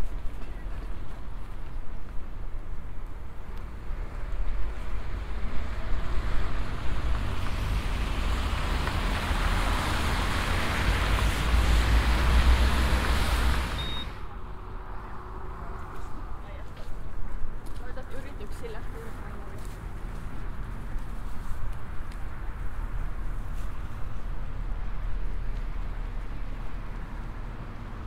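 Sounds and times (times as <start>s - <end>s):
steady low traffic rumble: 0.0s - 28.0s
vehicle tyre and road noise: 0.0s - 28.0s.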